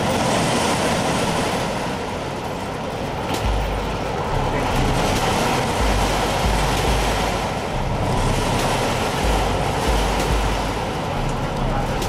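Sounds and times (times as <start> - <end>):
low rumbles: 1.6 - 12.0.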